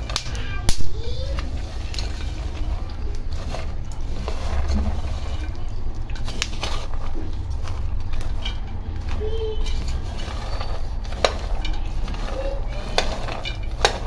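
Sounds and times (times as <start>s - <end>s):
low steady rumble: 0.0s - 14.0s
nuts clicking against pan: 0.0s - 14.0s
peanuts stirred in a dry pan: 0.0s - 14.0s.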